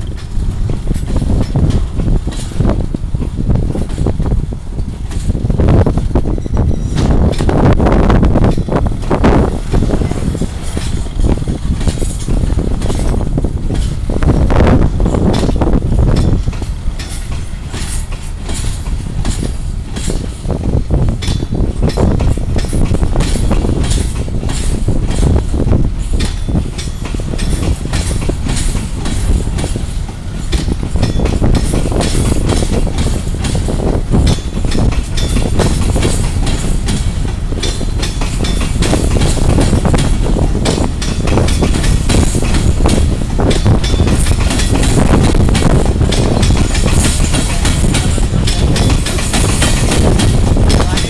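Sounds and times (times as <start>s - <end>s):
freight train wheels clattering: 0.0s - 51.0s.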